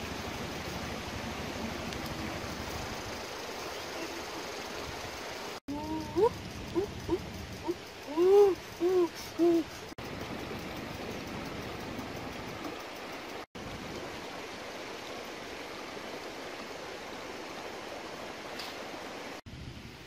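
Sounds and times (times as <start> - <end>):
running water: 0.0 - 19.4.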